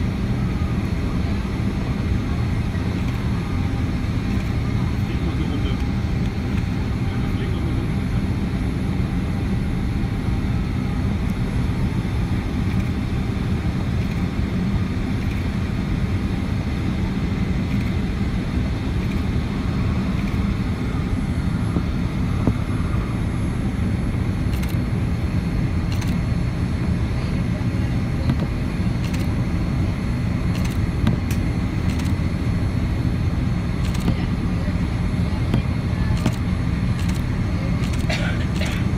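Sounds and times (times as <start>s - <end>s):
airplane cabin airflow: 0.0s - 38.9s
jet engine noise: 0.0s - 38.9s.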